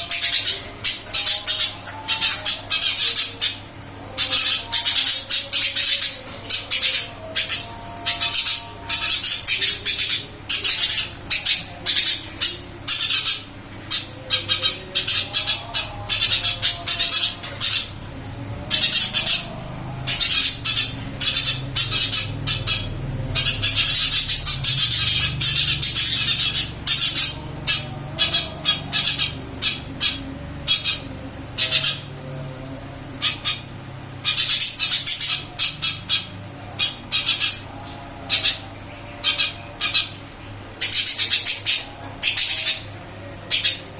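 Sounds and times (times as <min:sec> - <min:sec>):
sparrow chirping: 0:00.0 - 0:43.9.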